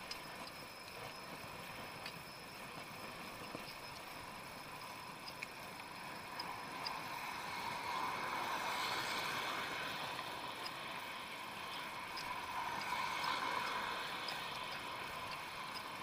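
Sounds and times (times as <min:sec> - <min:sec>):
bicycle tyres on asphalt: 0:00.0 - 0:16.0
faint ticks: 0:00.0 - 0:16.0.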